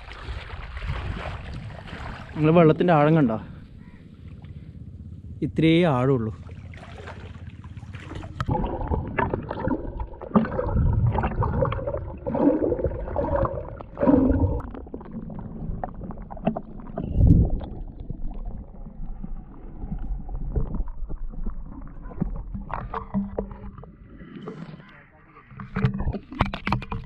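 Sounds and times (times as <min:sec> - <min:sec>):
muffled underwater water sloshing: 0:00.0 - 0:05.3, 0:06.0 - 0:27.0.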